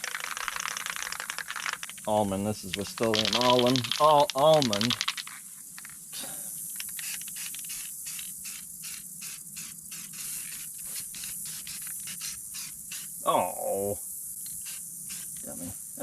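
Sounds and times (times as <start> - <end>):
spray can rattling ticks: 0.0 - 6.0, 6.7 - 13.2, 14.4 - 15.5
aerosol spray can hissing: 0.0 - 13.3, 14.3 - 15.8.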